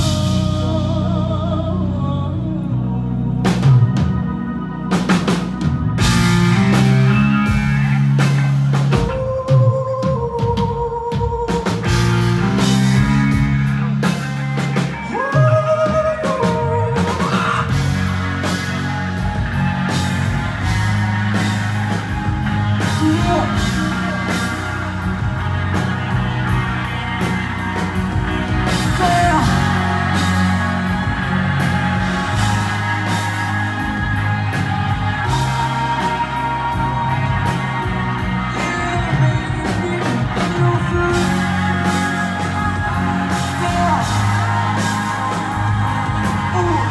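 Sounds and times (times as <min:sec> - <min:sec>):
live band playing: 0:00.0 - 0:46.9
person singing: 0:00.0 - 0:46.9.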